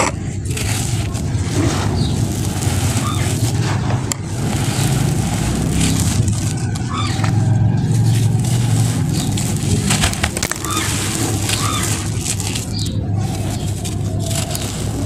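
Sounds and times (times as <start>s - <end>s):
steady low rumble: 0.0s - 15.0s
sand crunching: 0.4s - 15.0s
sand trickling with gritty hiss: 0.5s - 15.0s.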